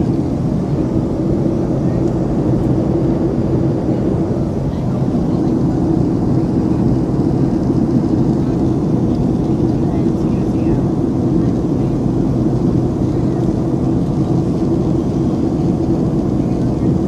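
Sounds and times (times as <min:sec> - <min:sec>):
airplane cabin rush: 0:00.0 - 0:17.0
low engine hums: 0:00.0 - 0:17.0.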